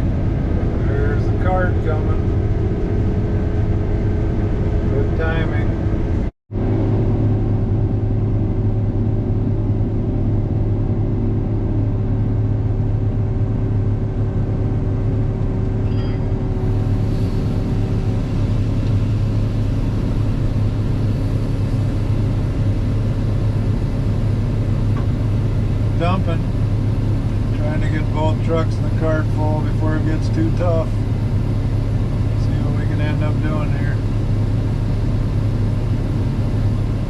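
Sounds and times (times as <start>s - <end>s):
combine harvester engine drone: 0.0s - 37.0s
machinery hum: 0.0s - 37.0s.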